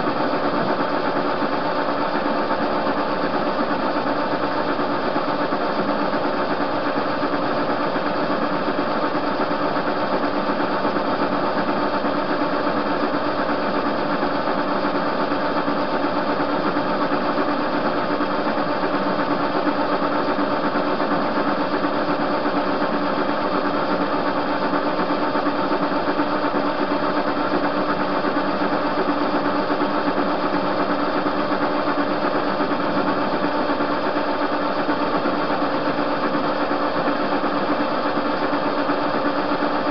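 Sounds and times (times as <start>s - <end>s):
metal lathe hum and whine: 0.0s - 39.9s.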